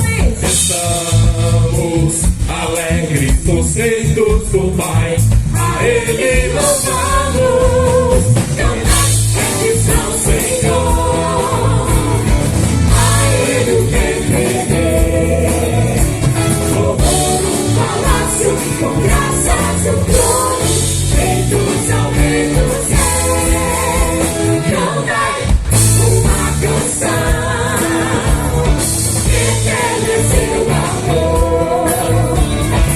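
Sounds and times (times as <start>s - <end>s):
band with bass and drums: 0.0s - 32.9s.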